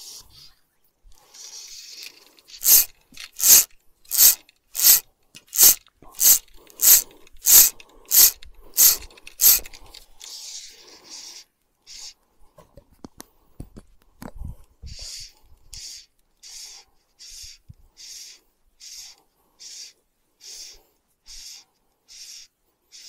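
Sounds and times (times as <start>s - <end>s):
fly line rasping zip: 1.2s - 12.2s, 14.9s - 23.0s.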